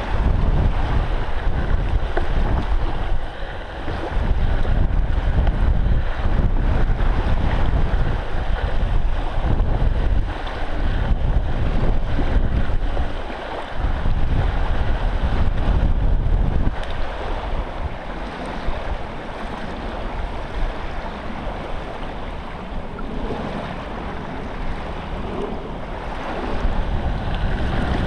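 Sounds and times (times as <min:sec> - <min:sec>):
waves washing onto sand: 0:00.0 - 0:28.0
wind buffeting microphone: 0:00.0 - 0:28.0.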